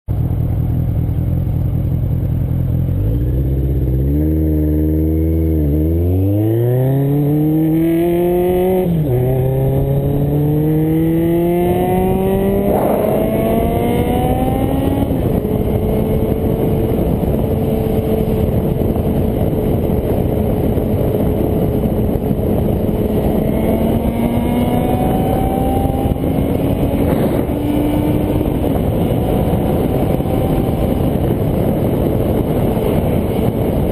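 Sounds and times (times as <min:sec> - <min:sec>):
motorcycle engine accelerating: 0:00.1 - 0:33.9
wind and road noise: 0:00.1 - 0:33.9.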